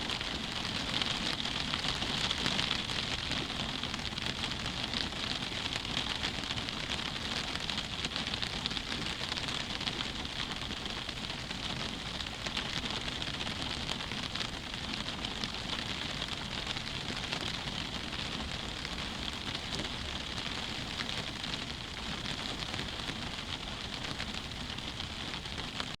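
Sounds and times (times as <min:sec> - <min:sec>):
rain pattering on a window: 0:00.0 - 0:26.0.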